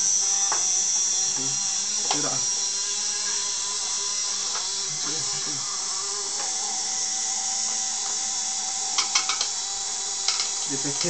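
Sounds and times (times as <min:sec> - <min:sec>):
small motor fan whine: 0:00.0 - 0:11.0.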